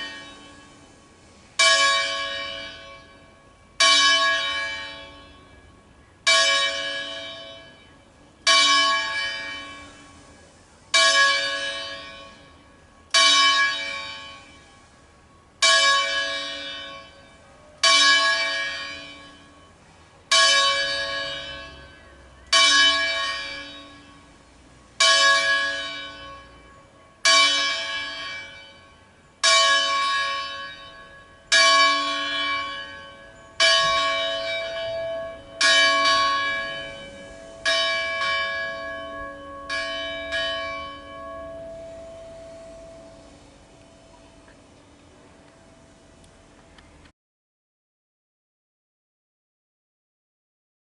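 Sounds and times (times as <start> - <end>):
church bell tolling: 0.0 - 45.9.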